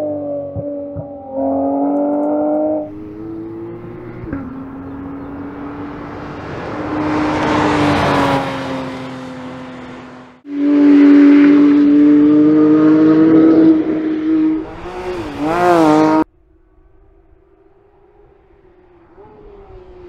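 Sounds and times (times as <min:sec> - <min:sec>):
car engine at high revs: 0:00.0 - 0:20.0.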